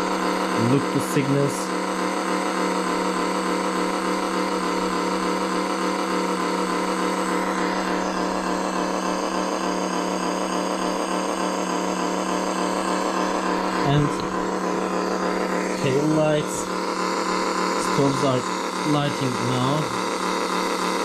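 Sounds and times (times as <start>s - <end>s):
synthesized engine idling: 0.0s - 21.0s.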